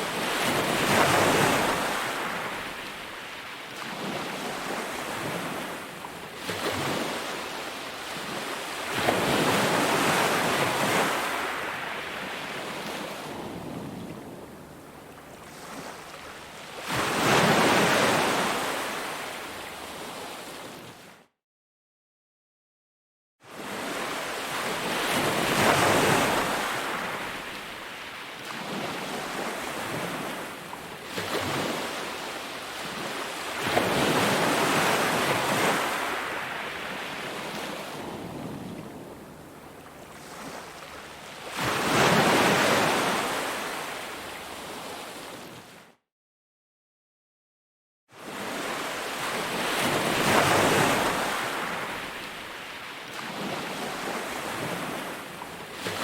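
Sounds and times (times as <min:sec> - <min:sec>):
waves breaking on beach: 0:00.0 - 0:14.6, 0:15.2 - 0:20.9, 0:23.5 - 0:45.8, 0:48.2 - 0:56.0.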